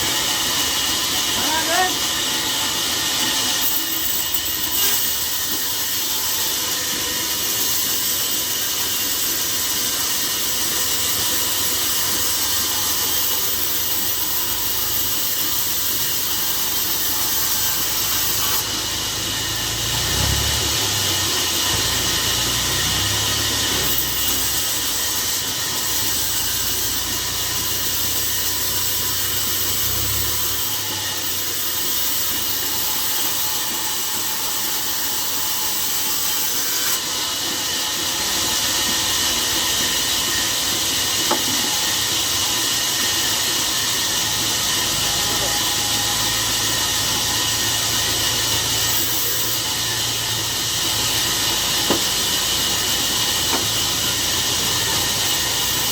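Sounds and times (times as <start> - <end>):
saw cutting timber: 0.0 - 55.9.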